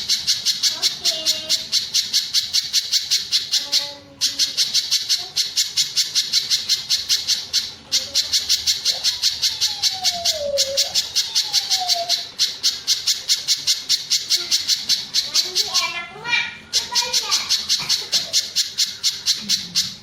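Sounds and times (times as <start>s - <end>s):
bird harsh chatter call: 0.0s - 20.0s.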